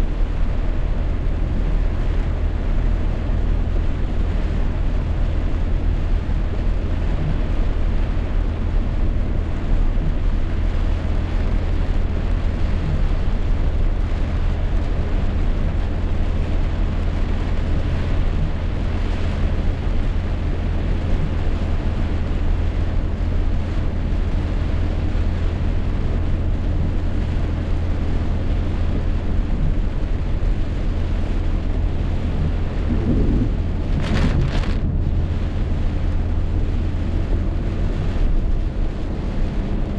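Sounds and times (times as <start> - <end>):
heavy rain downpour: 0.0 - 39.9
wind rumbling on microphone: 0.0 - 39.9.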